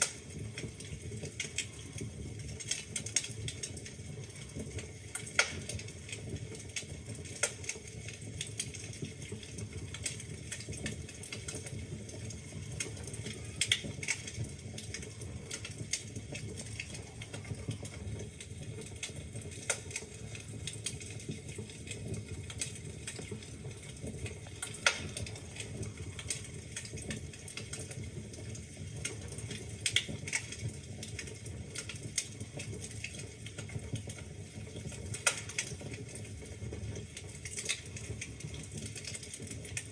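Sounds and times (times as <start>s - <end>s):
logs crackling and snapping: 0.0s - 1.9s, 2.6s - 36.3s, 36.9s - 39.9s
fire flames rumbling: 0.0s - 39.9s
fire popping: 0.0s - 39.9s.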